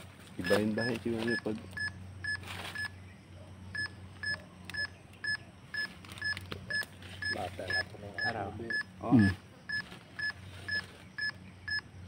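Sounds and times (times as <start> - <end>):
steady low hum: 0.0 - 12.0
short electronic beeps: 0.4 - 3.0, 3.7 - 11.9.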